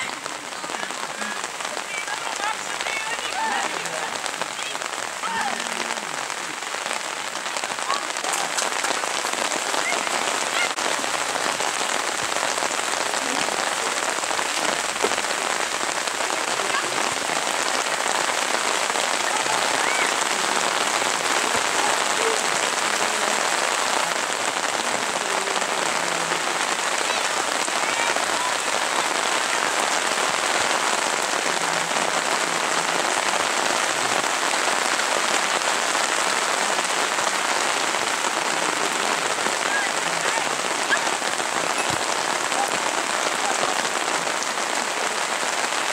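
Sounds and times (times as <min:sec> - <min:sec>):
steady rain hissing: 0:00.0 - 0:45.9.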